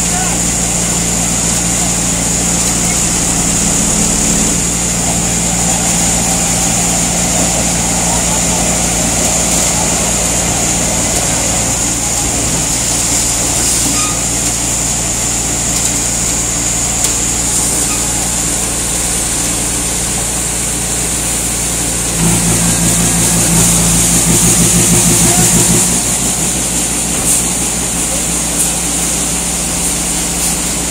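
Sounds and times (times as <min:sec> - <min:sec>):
concrete mixer pump engine hum: 0:00.0 - 0:30.9.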